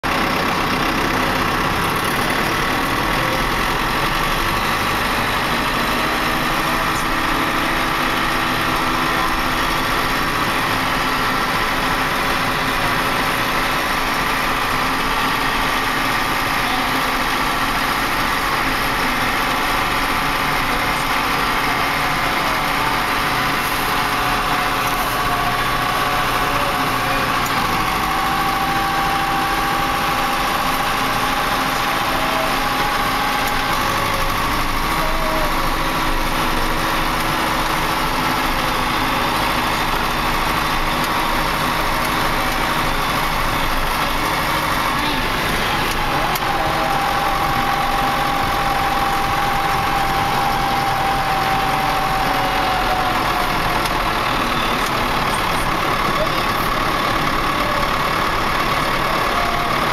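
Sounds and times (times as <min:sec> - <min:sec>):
small tractor engine running: 0:00.0 - 0:59.9.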